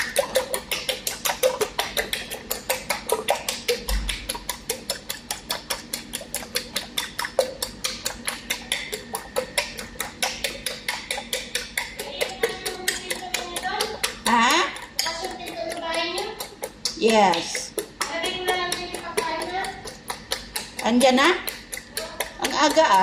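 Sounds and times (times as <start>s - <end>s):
fork beating eggs in bowl: 0.0s - 23.0s.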